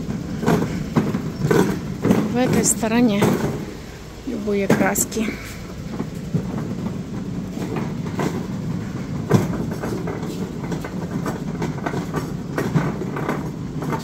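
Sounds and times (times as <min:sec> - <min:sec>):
cart clunk: 0:00.0 - 0:14.0
cart rattling over concrete: 0:00.0 - 0:14.0.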